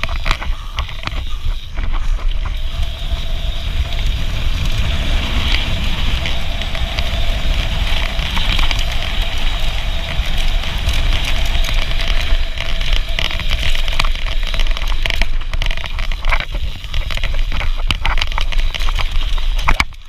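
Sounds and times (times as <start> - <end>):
bike rattling with clicks: 0.0 - 20.0
bike tyres crackling over gravel: 0.0 - 20.0
wind buffeting microphone: 0.0 - 20.0.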